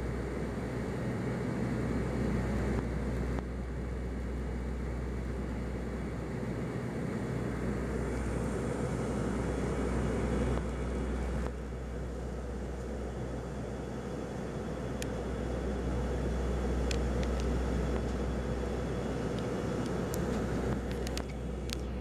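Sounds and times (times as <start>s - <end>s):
turboprop engines humming: 0.0s - 22.0s.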